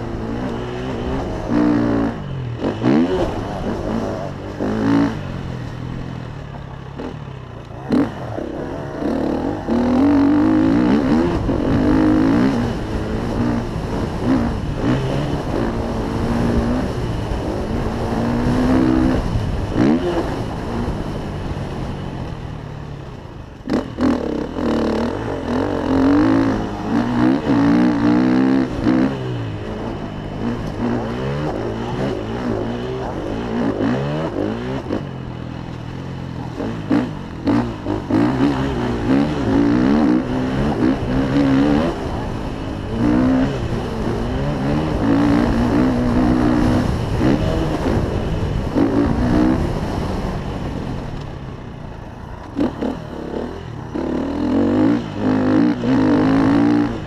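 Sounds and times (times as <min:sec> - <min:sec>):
dirt bike engine revving: 0:00.0 - 0:21.9, 0:23.6 - 0:51.0, 0:52.3 - 0:57.0.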